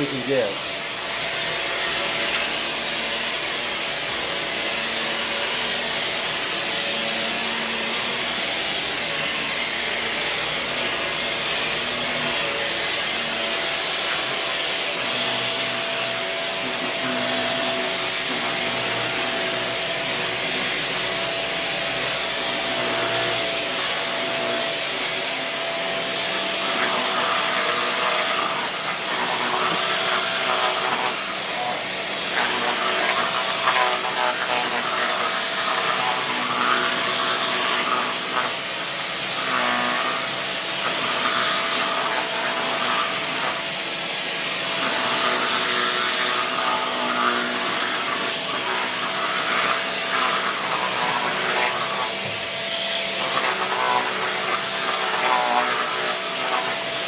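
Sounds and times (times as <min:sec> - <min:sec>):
stick vacuum running: 0:00.0 - 0:57.0.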